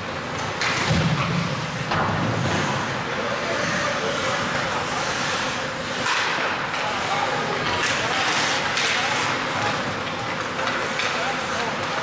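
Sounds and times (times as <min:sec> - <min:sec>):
noisy rink crowd voices: 0:00.0 - 0:12.0.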